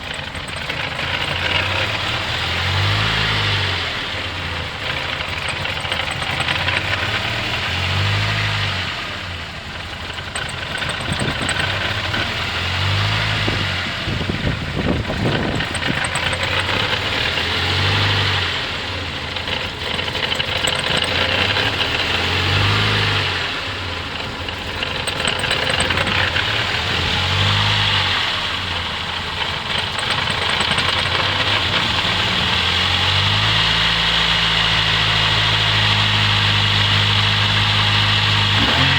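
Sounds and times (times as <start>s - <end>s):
car engine idling roughly: 0.0s - 38.9s
engine clattering: 0.0s - 38.9s.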